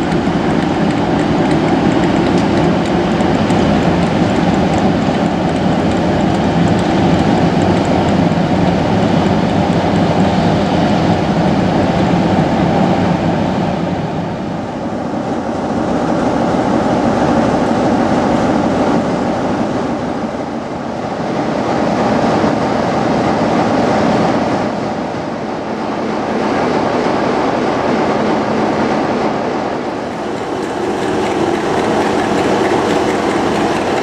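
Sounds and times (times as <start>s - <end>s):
train wheels rolling on rails: 0.0s - 13.8s, 16.1s - 34.0s
diesel locomotive engine running: 0.0s - 34.0s.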